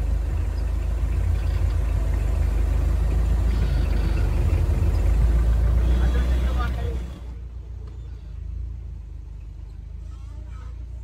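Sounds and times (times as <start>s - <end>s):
van engine rumble inside cabin: 0.0s - 11.0s.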